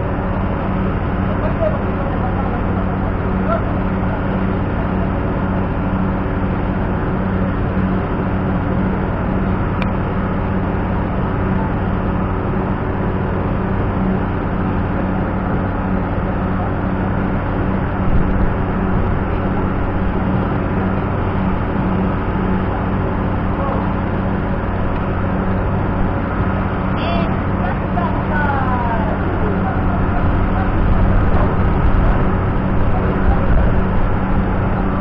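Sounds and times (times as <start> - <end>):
machinery drone with low hum: 0.0 - 35.0.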